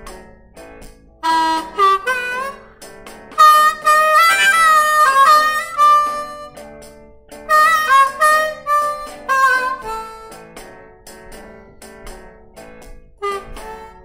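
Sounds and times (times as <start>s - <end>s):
blues harmonica: 1.2s - 14.0s.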